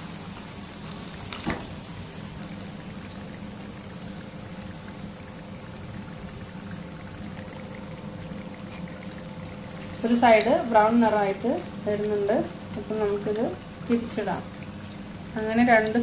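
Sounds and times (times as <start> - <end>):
deep-frying sizzle with crackles: 0.0 - 16.0.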